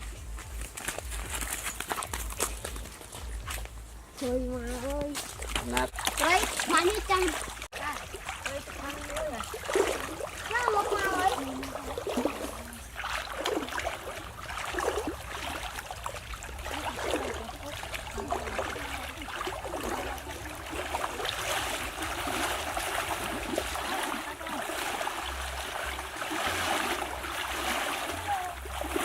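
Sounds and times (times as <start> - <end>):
small water splashes: 0.0 - 29.0
water sloshing and trickling: 0.0 - 29.0.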